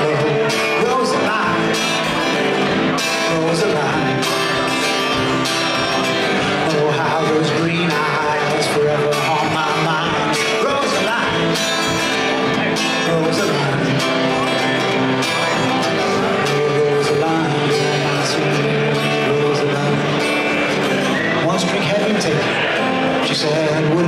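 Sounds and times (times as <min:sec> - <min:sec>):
song with guitar and singing: 0:00.0 - 0:24.0.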